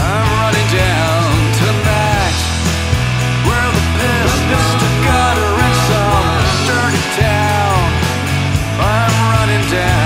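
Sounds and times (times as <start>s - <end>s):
country-rock band playing: 0.0s - 10.0s.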